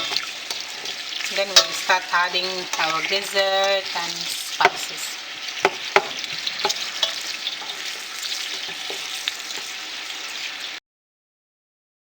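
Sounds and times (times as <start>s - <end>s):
stirring clicks: 0.0s - 10.5s
onions sizzling in oil: 0.0s - 10.8s.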